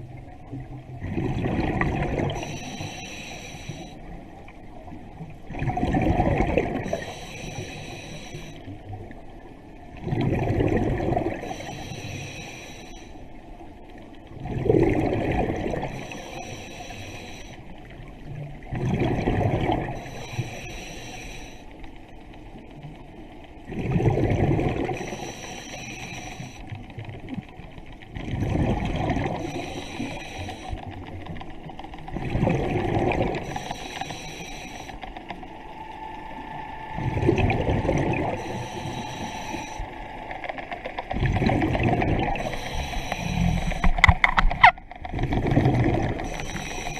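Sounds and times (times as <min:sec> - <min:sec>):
steady water wash: 0:00.0 - 0:46.9.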